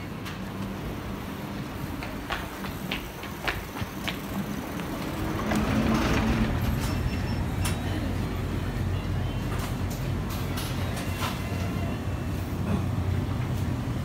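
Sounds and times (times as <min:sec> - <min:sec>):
shop interior noise: 0:00.0 - 0:14.0.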